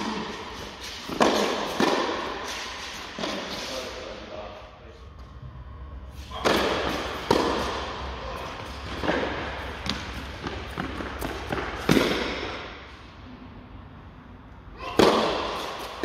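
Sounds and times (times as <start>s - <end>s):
echo in large hall: 0.0s - 16.0s.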